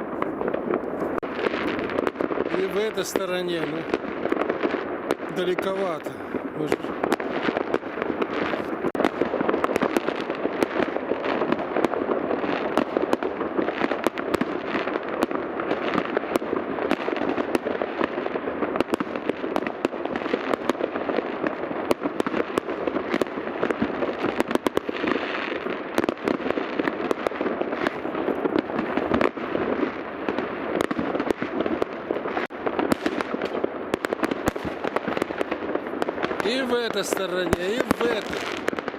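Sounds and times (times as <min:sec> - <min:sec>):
fireworks bangs and pops: 0:00.0 - 0:38.9.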